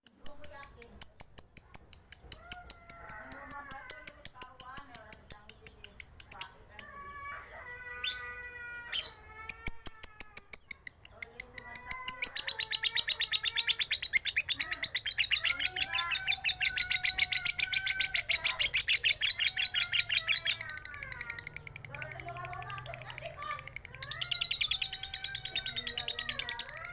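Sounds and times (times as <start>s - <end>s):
bird chattering trill: 0.0s - 7.0s, 9.0s - 26.9s.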